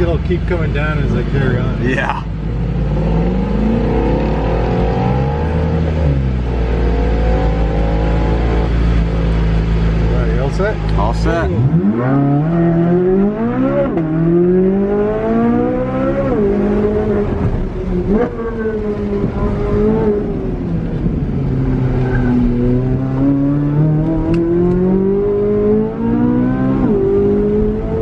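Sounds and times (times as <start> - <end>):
sports car engine accelerating: 0.0 - 28.0.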